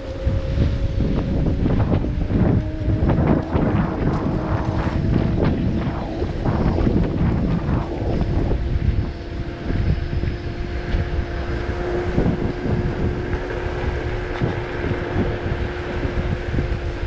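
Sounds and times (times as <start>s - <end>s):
scooter motor hum: 0.0s - 17.0s
wind buffeting microphone: 0.0s - 17.0s.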